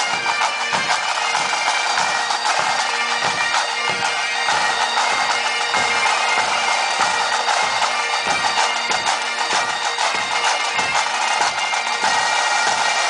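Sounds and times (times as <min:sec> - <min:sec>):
bagpipes with drone: 0:00.0 - 0:13.0
bass and snare drums: 0:00.0 - 0:13.0.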